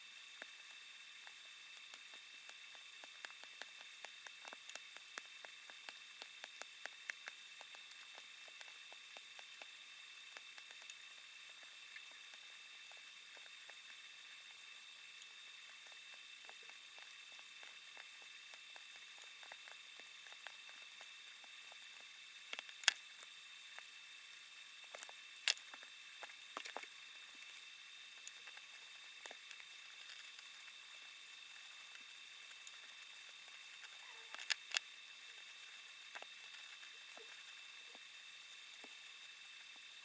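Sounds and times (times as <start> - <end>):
small objects clicking and tapping: 0.4 - 14.1, 15.2 - 23.9, 24.8 - 27.5, 28.2 - 38.0.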